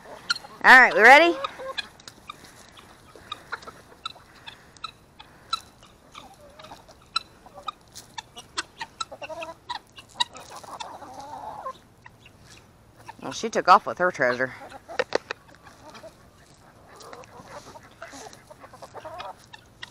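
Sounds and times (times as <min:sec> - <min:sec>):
hens clucking softly: 0:00.0 - 0:13.5, 0:14.3 - 0:19.9
beaks pecking at the ground: 0:00.0 - 0:19.9.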